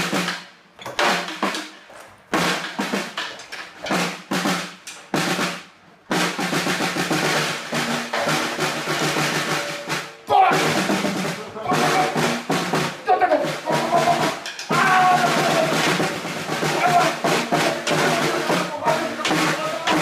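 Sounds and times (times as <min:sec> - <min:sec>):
snare drum strokes and roll: 0:00.0 - 0:20.0.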